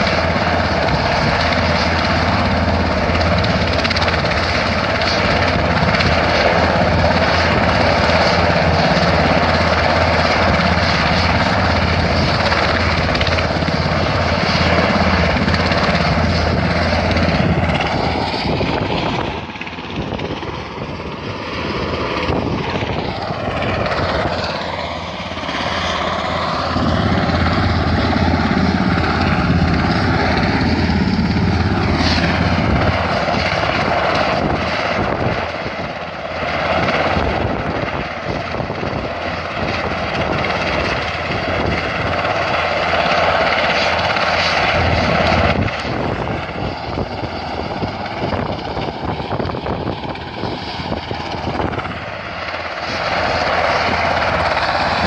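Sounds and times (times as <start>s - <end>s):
helicopter turbines and rotor: 0.0s - 55.0s.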